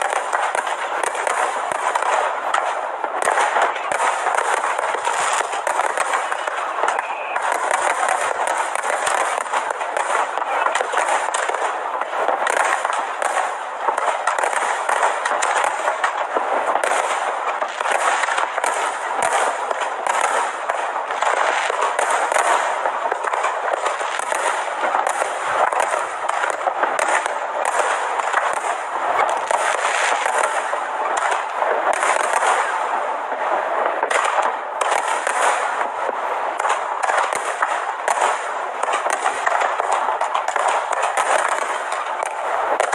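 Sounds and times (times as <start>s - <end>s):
fireworks crackling bangs: 0.0s - 42.9s.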